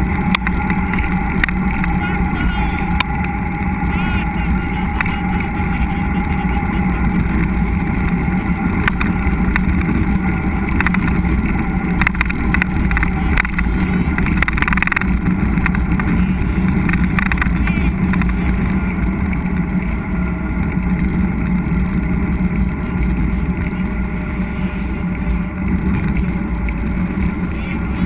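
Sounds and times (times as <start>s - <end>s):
bike clicks and rattles: 0.0s - 24.3s, 25.0s - 28.0s
wind buffeting: 0.0s - 28.0s.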